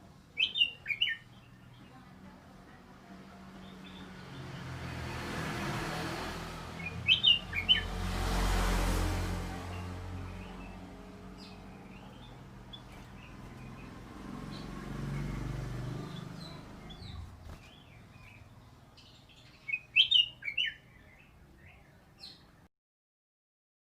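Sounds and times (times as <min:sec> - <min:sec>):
bird chirping: 0:00.3 - 0:02.1, 0:03.6 - 0:08.1, 0:09.7 - 0:22.7.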